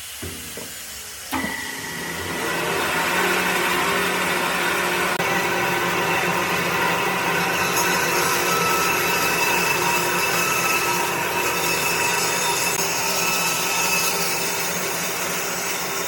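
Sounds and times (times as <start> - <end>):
electric power tool running: 1.3 - 16.0.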